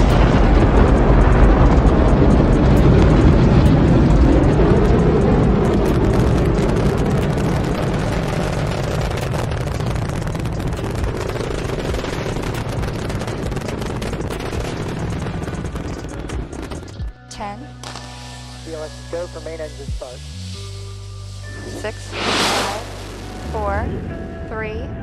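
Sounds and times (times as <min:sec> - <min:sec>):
rocket launch roar: 0:00.0 - 0:16.7, 0:17.8 - 0:23.8.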